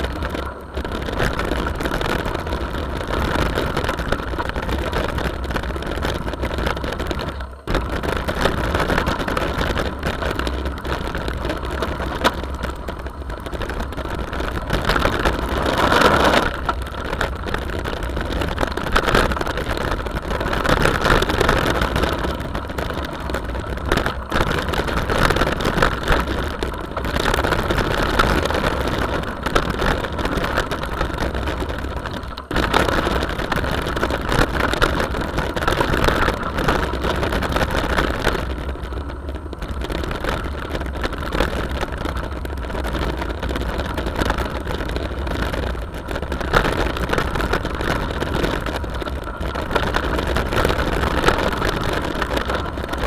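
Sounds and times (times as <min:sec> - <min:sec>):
tyres rolling on gravel: 0:00.0 - 0:53.0
wind buffeting microphone: 0:00.0 - 0:53.0.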